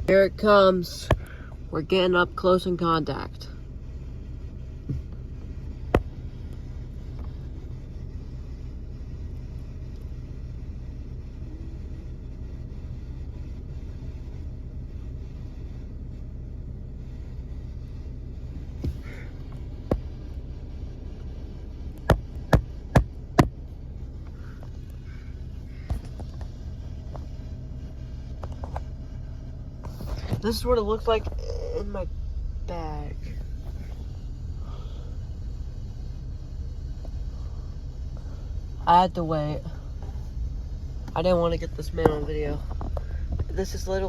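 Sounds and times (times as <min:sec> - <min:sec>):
low rumbling noise: 0:00.0 - 0:44.0.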